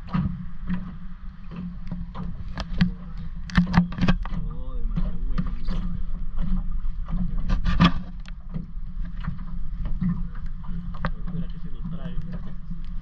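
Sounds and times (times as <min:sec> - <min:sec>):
knocks and clicks: 0:00.0 - 0:13.0
steady low hum: 0:00.0 - 0:13.0
water sloshing and lapping: 0:00.0 - 0:13.0.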